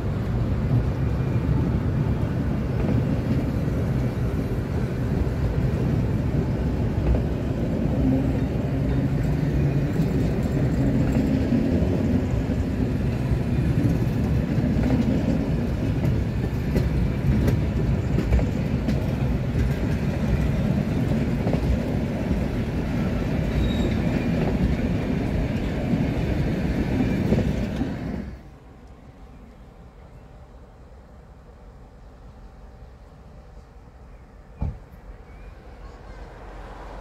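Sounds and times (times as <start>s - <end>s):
train coaches rumbling past: 0.0s - 37.0s.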